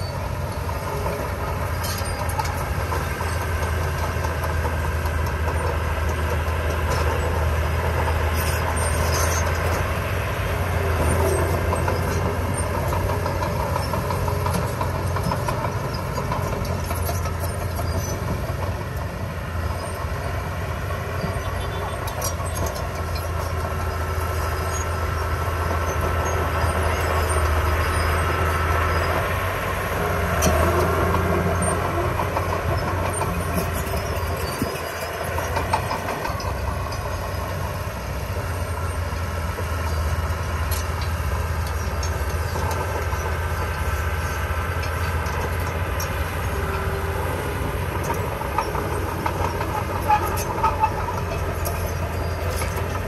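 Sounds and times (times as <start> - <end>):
bulldozer diesel engine running: 0.0 - 53.0
steel tracks clanking: 0.0 - 53.0.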